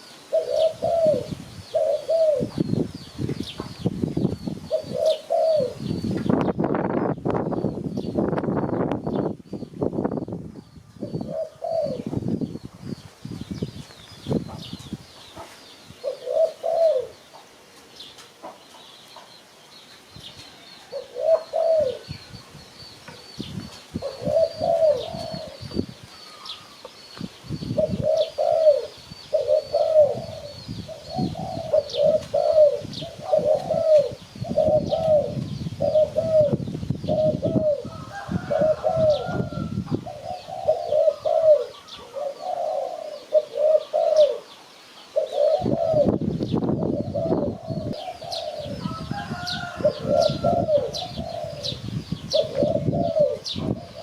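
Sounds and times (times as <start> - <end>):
doves cooing: 0.0 - 7.5, 10.8 - 12.8, 14.3 - 17.6, 20.3 - 54.0
small birds chirping: 0.0 - 54.0.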